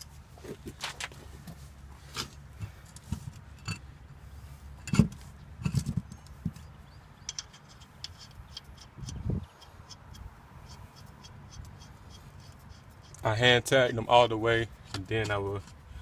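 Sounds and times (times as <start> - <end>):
metal lug nuts clinking: 2.0 - 15.8.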